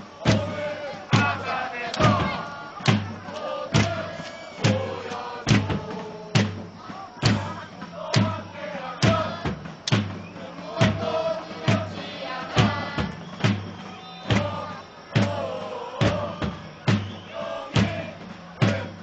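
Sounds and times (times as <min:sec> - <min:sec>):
drum beaten steadily: 0:00.0 - 0:19.0
football supporters chanting: 0:00.0 - 0:19.0.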